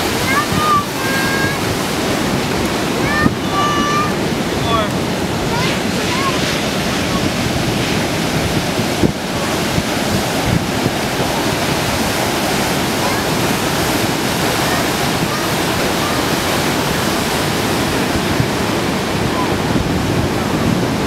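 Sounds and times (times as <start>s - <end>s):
ocean waves crashing: 0.0s - 21.0s.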